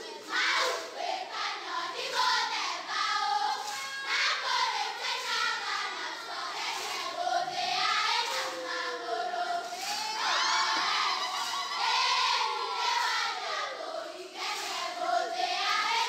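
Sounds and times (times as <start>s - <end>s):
high-pitched voices singing: 0.0s - 16.0s.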